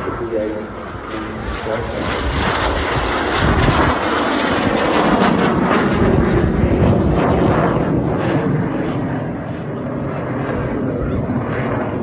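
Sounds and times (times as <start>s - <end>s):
aircraft engine flying overhead: 0.0s - 12.0s.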